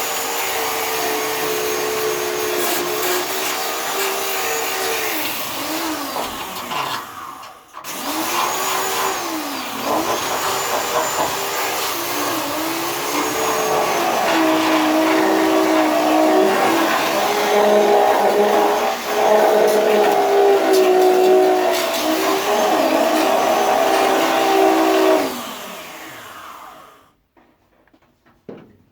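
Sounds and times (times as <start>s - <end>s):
hand-held grinder on metal: 0.0s - 27.0s.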